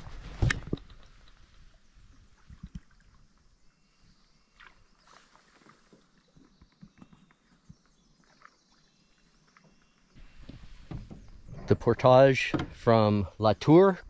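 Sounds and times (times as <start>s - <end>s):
paddle strokes: 0.0s - 13.1s.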